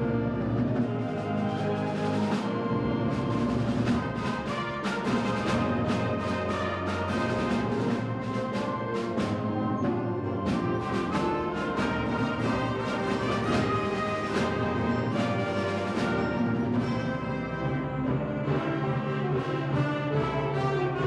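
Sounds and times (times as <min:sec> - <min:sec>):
brass and woodwind chords: 0:00.0 - 0:21.0
percussion strokes: 0:00.5 - 0:18.8.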